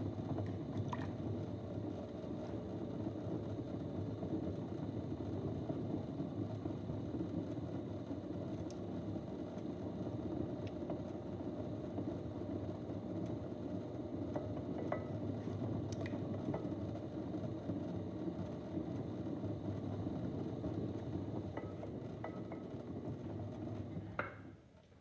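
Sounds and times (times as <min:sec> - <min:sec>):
potter's wheel rumbling: 0:00.0 - 0:24.6.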